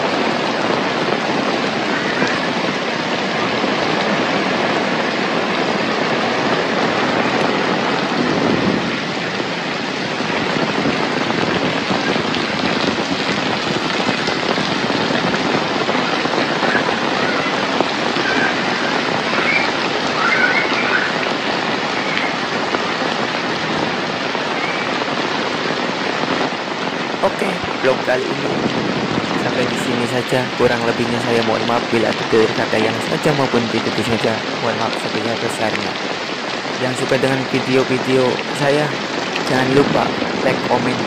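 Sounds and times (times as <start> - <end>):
heavy rain hiss: 0.0 - 41.0.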